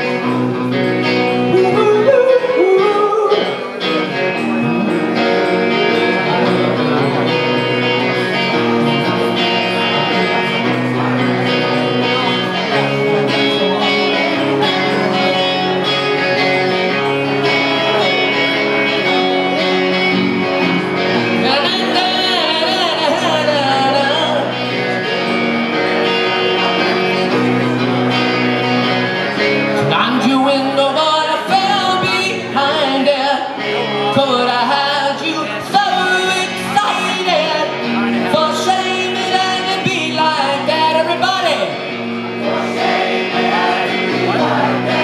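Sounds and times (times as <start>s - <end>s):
rock band playing: 0.0s - 45.0s
man singing: 1.1s - 20.1s, 21.0s - 25.1s, 29.8s - 45.0s.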